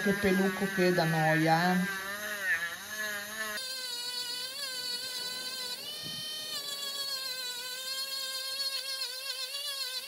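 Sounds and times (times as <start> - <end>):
rotary tool high whine: 0.0 - 10.0.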